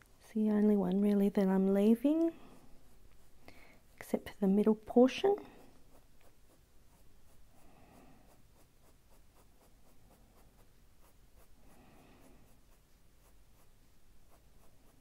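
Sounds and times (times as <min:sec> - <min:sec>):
coloured pencil scratching paper: 0:00.0 - 0:15.0.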